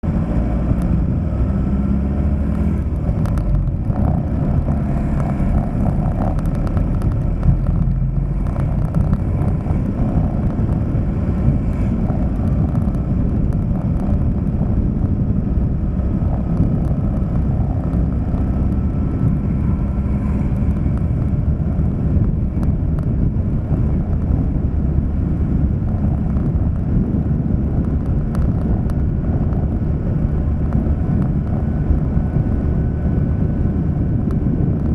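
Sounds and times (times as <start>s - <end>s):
vehicle engine and road noise: 0.0s - 34.9s.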